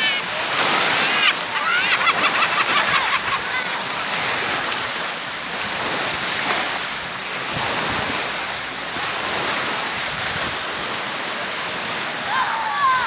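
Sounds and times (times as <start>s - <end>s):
wind on microphone: 0.0s - 11.0s
waves washing onto shore: 0.0s - 13.0s.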